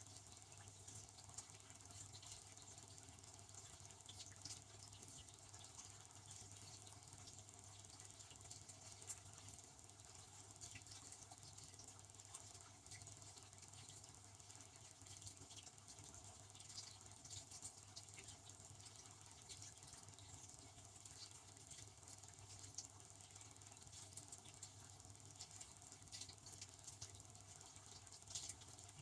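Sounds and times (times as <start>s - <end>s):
pump hum: 0.0s - 29.0s.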